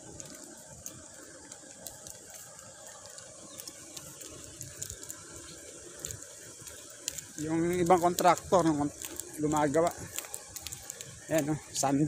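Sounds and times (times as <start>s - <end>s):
high outdoor hiss: 0.0s - 12.0s.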